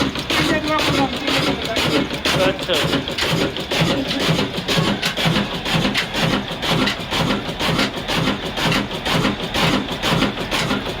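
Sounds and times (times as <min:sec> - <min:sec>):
diesel engine running: 0:00.0 - 0:11.0
rasping saw: 0:00.0 - 0:11.0.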